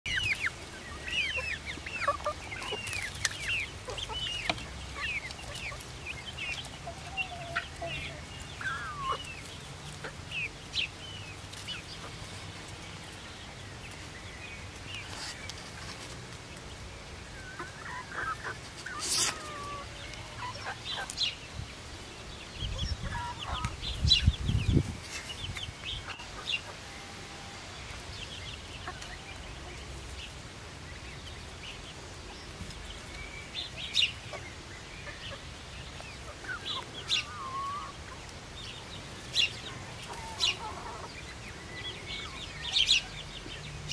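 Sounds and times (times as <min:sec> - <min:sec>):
chicks clucking and peeping: 0:00.1 - 0:43.9.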